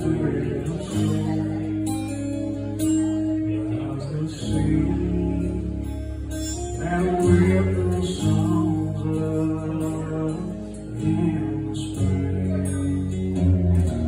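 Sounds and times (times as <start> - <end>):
acoustic guitar: 0.0 - 14.0
man singing: 0.0 - 14.0.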